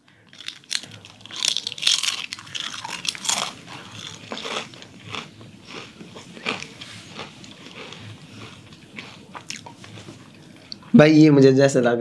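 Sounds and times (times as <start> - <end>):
person crunching potato chip: 0.3 - 10.0.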